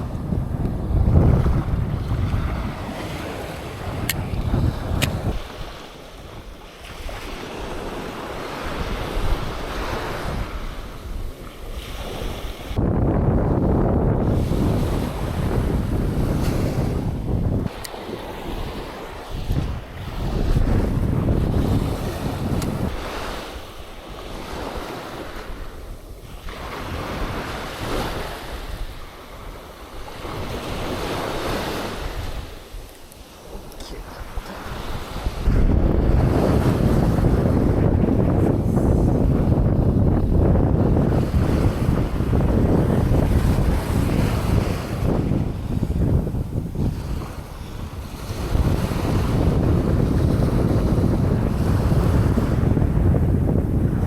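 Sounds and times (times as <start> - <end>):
surf washing on sandy beach: 0.0 - 54.0
wind buffeting microphone: 0.0 - 54.0.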